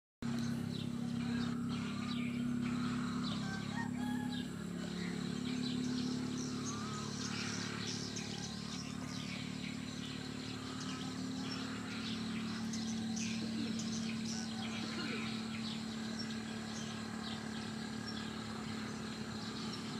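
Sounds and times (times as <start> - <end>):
birds calling and chirping: 0.2 - 19.9
low machine hum: 0.2 - 19.9.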